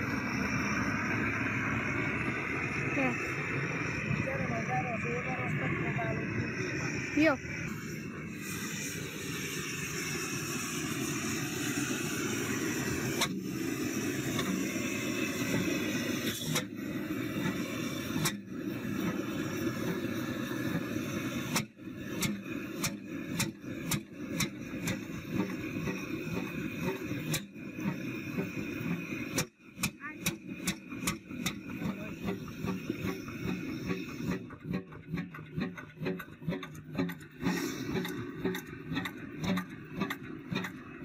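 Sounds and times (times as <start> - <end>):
engine uneven sharp beats: 0.0 - 41.0
stationary engines rumbling: 0.0 - 41.0.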